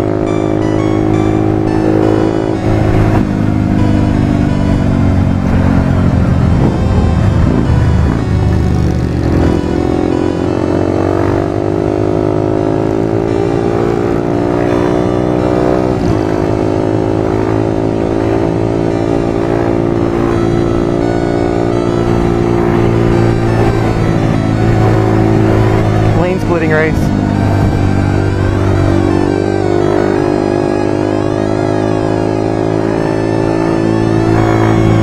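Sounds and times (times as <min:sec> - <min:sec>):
motorcycle engine revving: 0:00.0 - 0:35.0
road and wind noise: 0:00.0 - 0:35.0.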